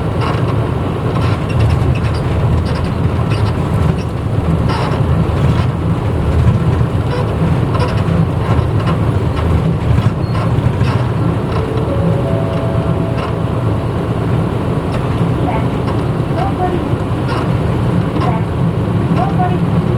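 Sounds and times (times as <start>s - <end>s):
bus engine drone: 0.0s - 19.9s
road noise: 0.0s - 19.9s.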